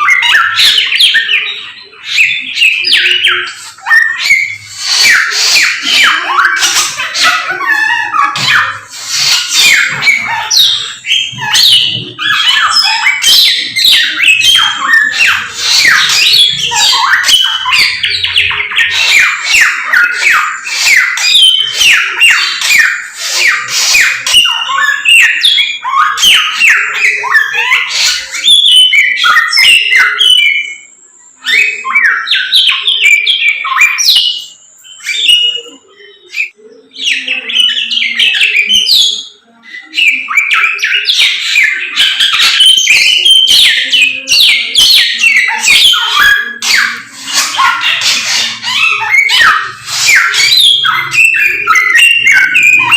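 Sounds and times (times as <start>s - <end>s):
songbird singing whistled notes: 0.0s - 52.9s.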